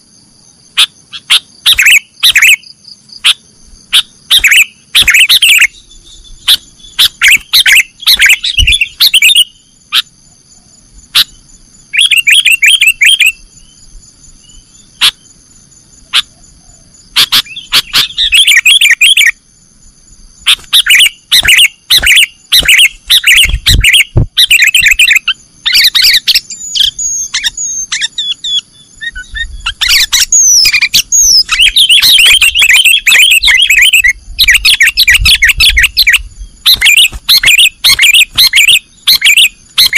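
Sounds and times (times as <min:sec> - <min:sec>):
bulbul chattering calls: 0:00.8 - 0:13.8, 0:14.4 - 0:15.4, 0:16.0 - 0:19.4, 0:20.4 - 0:39.9.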